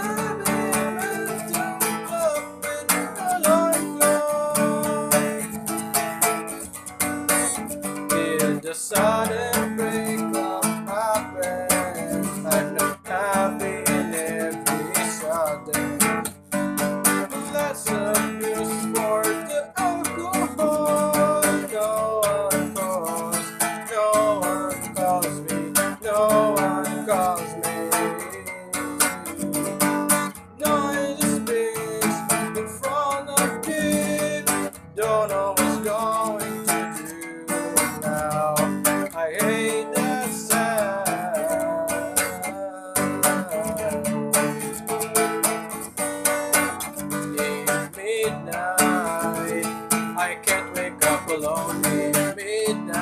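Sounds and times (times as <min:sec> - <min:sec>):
acoustic guitar strumming: 0:00.0 - 0:53.0
man singing: 0:00.0 - 0:53.0.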